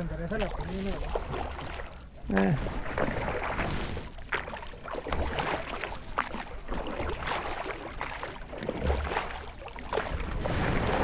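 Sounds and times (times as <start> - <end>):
oars splashing: 0.0 - 11.0
water sloshing against hull: 0.0 - 11.0.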